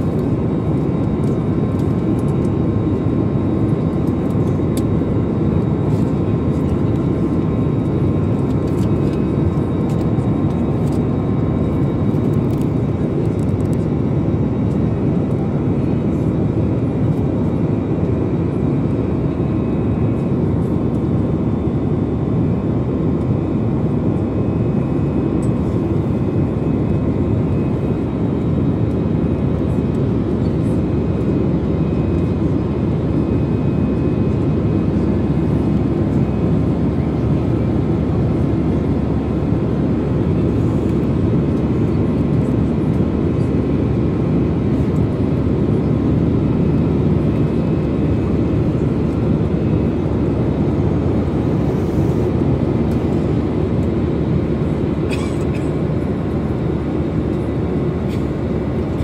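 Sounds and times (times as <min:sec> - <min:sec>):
jet engine roar in cabin: 0:00.0 - 0:59.0.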